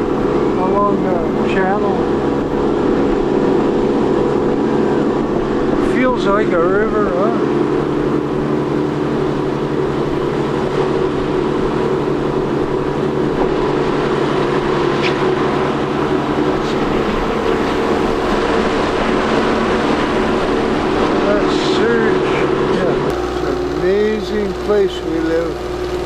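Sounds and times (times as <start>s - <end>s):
outboard motor droning: 0.0s - 26.0s.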